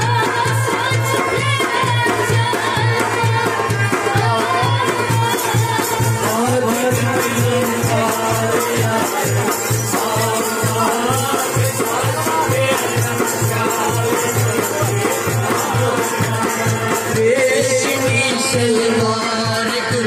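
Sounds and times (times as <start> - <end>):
goblet drum beat: 0.0 - 20.0
harmonium: 0.0 - 20.0
small hand drum: 0.0 - 20.0
string instrument: 0.0 - 20.0.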